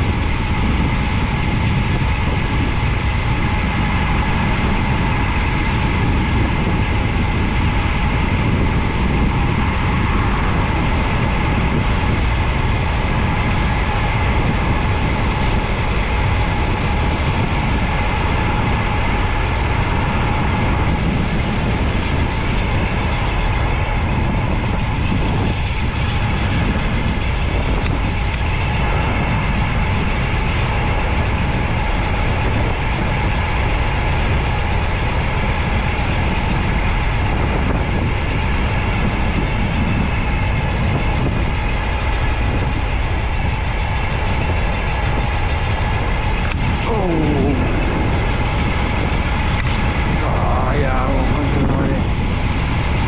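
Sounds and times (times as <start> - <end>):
wind and road rumble of bike: 0.0 - 53.0.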